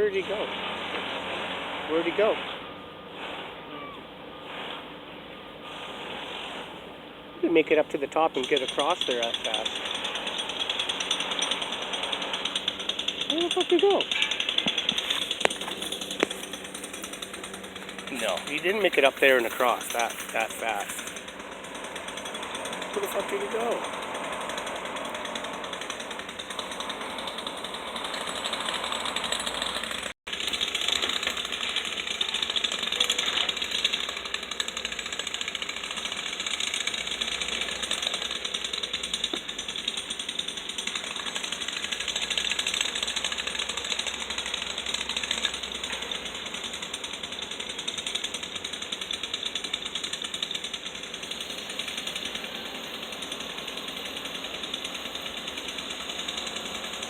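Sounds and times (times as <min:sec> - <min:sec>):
jackhammer rattle: 0:07.7 - 0:57.0.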